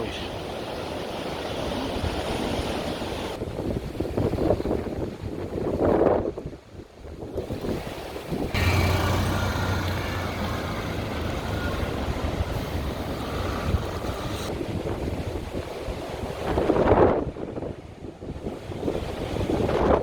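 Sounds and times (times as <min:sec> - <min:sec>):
strong wind on microphone: 0:01.2 - 0:20.0.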